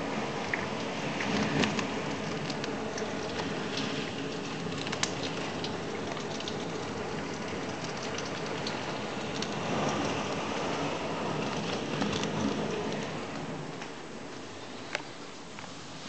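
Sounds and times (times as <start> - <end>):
heavy rain rushing: 0.0 - 14.8
rain drop ticks: 0.3 - 15.8.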